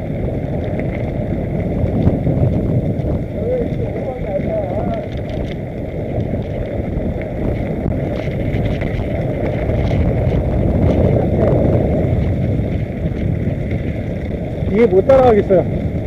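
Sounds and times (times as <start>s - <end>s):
bicycle tyres on dirt trail: 0.0s - 16.0s
small rattles and clicks: 0.0s - 16.0s
wind on microphone: 0.0s - 16.0s.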